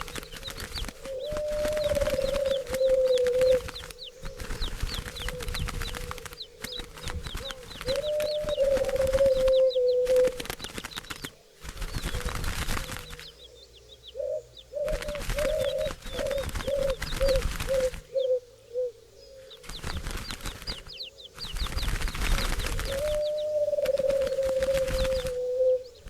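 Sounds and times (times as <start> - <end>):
low repeated coos: 0.0 - 10.5, 12.1 - 19.6, 22.7 - 26.0
bird wings flapping: 0.0 - 13.5, 14.8 - 18.2, 19.5 - 25.5
small birds chirping: 0.0 - 26.0.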